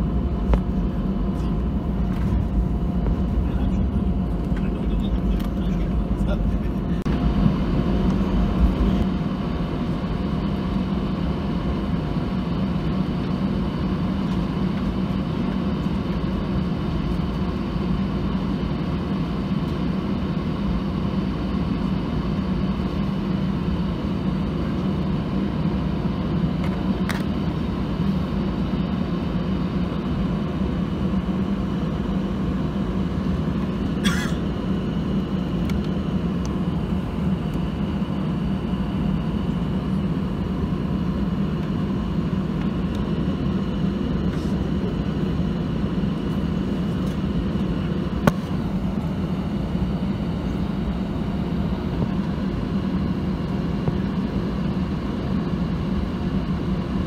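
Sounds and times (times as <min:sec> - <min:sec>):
airplane cabin engine drone: 0:00.0 - 0:57.0
faint engine whine: 0:00.0 - 0:57.0.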